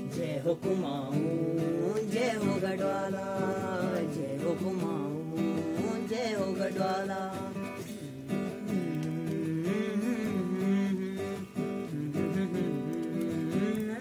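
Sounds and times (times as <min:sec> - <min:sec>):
acoustic guitar: 0:00.0 - 0:14.0
person singing slow melody: 0:00.0 - 0:14.0.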